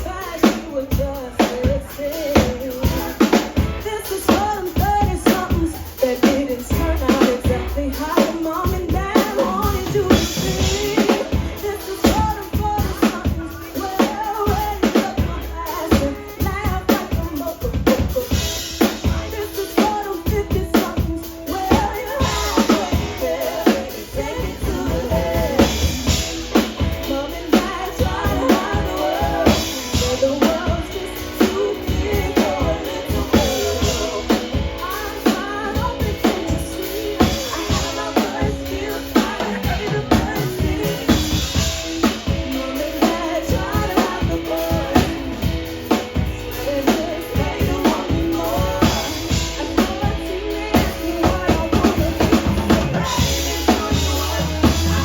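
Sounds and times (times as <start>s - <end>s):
drum kit beat: 0.0s - 55.0s
live band playing: 0.0s - 55.0s.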